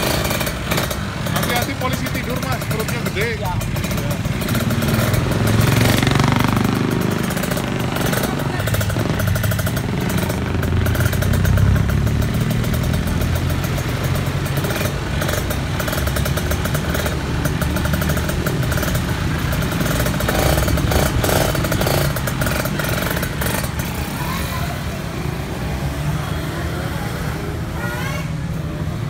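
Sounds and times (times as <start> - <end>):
two-stroke motorcycle engine running: 0.0 - 25.4.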